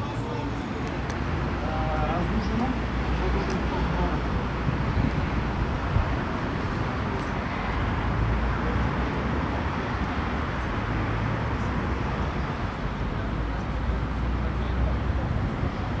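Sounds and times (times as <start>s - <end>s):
low rumble of motor vehicles: 0.0s - 16.0s.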